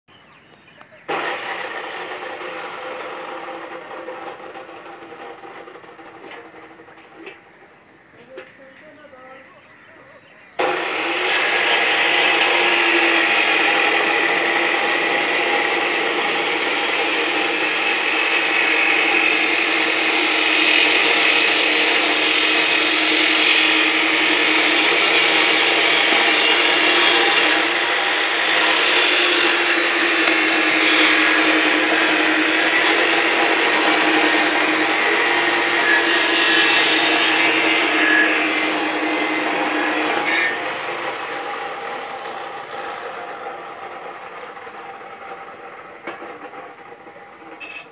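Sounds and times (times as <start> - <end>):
power tool running: 1.1 - 7.4, 10.6 - 47.9.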